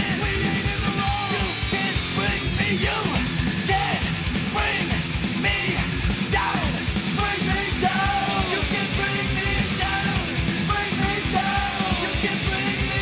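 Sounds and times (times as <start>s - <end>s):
loud punk rock music: 0.0s - 13.0s
shouted singing: 0.0s - 13.0s.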